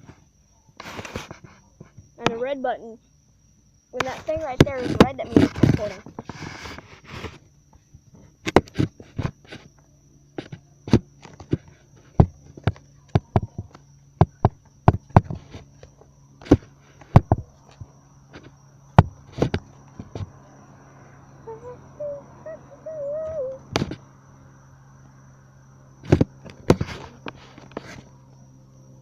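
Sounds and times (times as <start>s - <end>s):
faint high insect drone: 0.0s - 29.0s.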